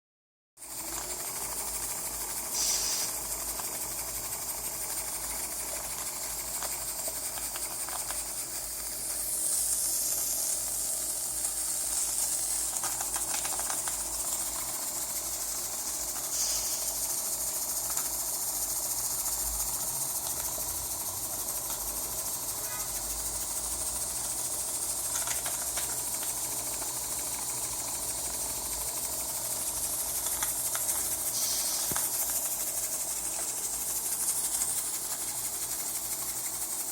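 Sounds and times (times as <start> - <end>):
steam hissing from boiler: 0.6 - 36.9.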